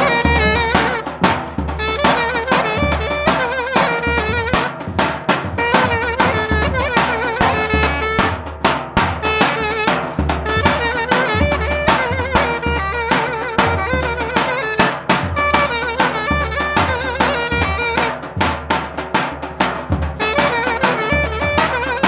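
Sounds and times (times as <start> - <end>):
clarinet melody with vibrato: 0.0 - 8.4, 9.2 - 18.1, 20.2 - 22.0
steady drum beat: 0.0 - 22.0.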